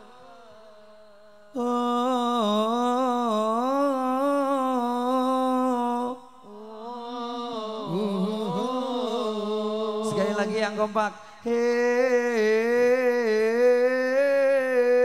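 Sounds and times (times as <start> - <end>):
man singing through a pa: 0.0 - 15.0.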